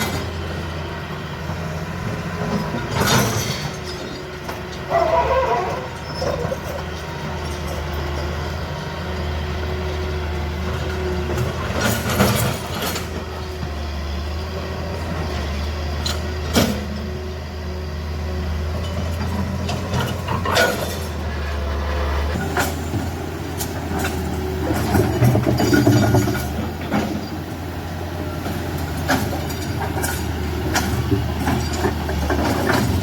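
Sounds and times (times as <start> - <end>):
diesel machinery droning: 0.0 - 33.0.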